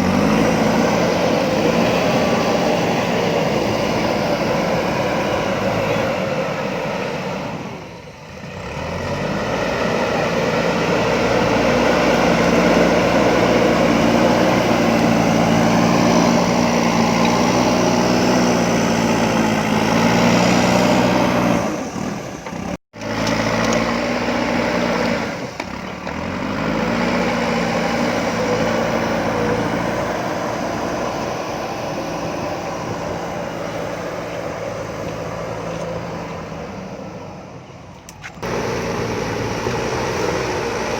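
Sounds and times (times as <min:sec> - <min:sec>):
diesel engine revving: 0:00.0 - 0:37.6, 0:38.3 - 0:40.9.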